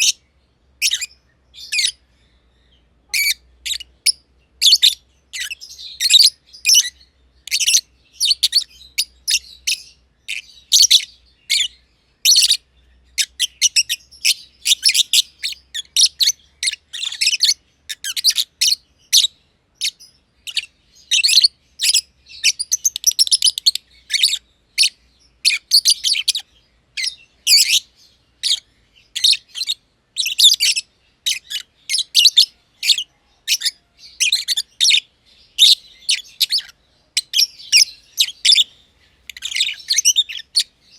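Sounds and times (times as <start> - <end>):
lovebirds chirping: 0.0 - 40.9.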